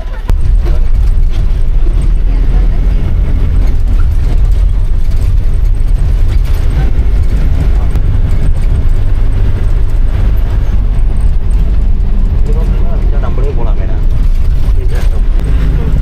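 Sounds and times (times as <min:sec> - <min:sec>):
minibus engine and road rumble: 0:00.0 - 0:16.0.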